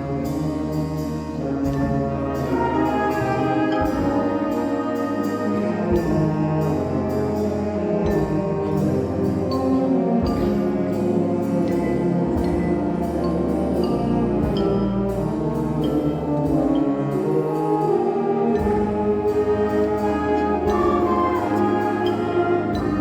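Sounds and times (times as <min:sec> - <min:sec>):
percussion strokes: 0:00.0 - 0:23.0
symphonic band playing: 0:00.0 - 0:23.0.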